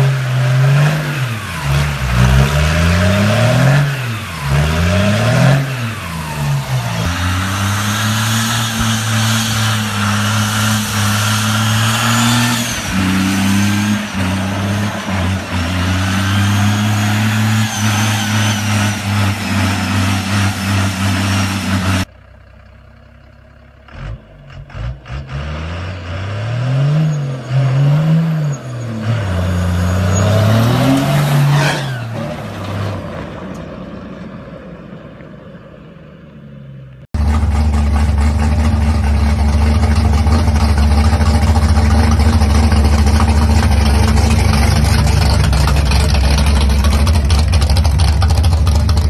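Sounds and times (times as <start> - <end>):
truck engine revving loud exhaust: 0.0 - 22.1, 23.9 - 33.9, 37.2 - 49.0.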